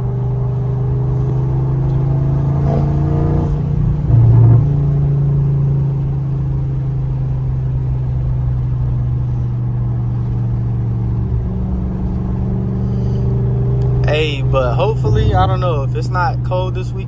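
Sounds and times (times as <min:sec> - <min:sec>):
low car exhaust note: 0:00.0 - 0:17.0.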